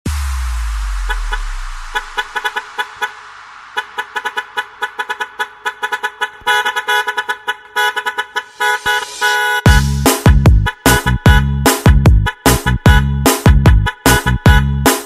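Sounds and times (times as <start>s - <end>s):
truck horn toots in dance remix: 0.1s - 15.0s.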